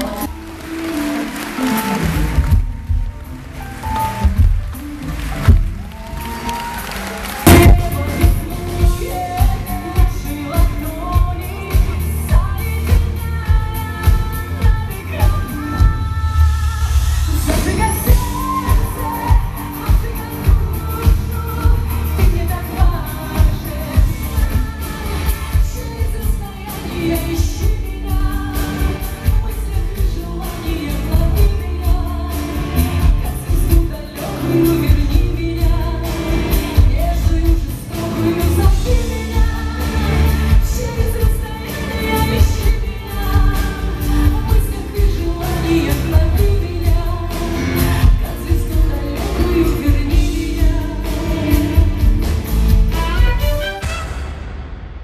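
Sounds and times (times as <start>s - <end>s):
pop band with heavy bass: 0.0s - 55.0s
woman singing: 6.2s - 53.8s.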